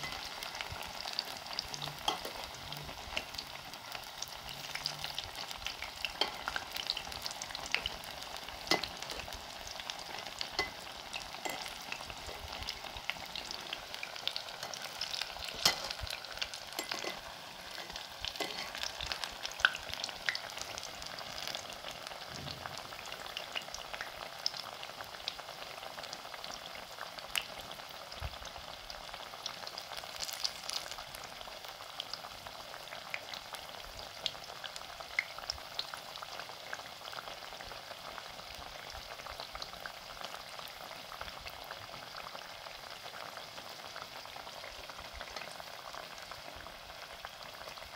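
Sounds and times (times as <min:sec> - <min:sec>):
potato slices deep-frying in oil: 0:00.0 - 0:47.9.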